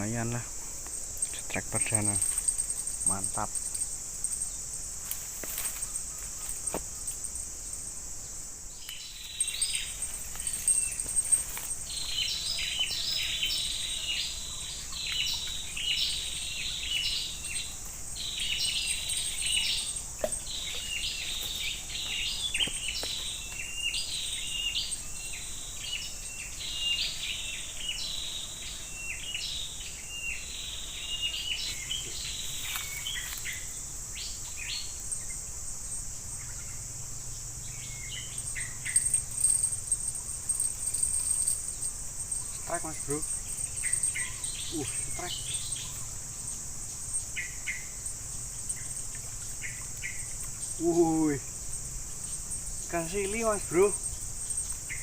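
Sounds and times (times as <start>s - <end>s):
birds calling: 0.0s - 8.0s, 8.8s - 55.0s
high-pitched insect drone: 0.0s - 55.0s.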